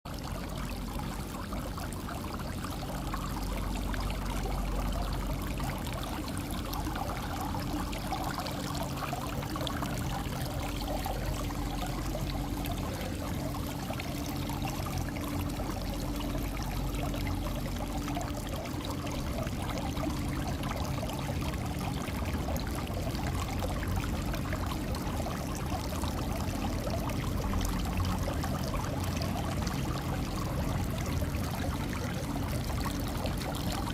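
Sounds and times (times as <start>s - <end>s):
water fountain running: 0.1s - 33.9s.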